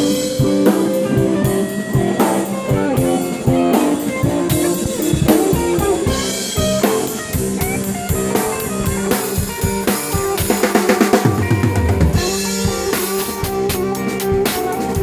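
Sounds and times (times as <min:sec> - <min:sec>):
drums and cymbals: 0:00.0 - 0:15.0
electric guitars through amplifiers: 0:00.0 - 0:15.0.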